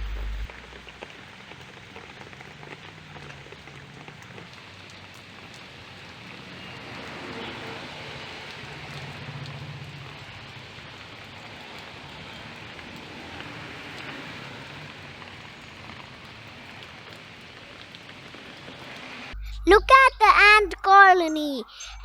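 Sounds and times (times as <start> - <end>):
steady rain falling: 0.0 - 19.4.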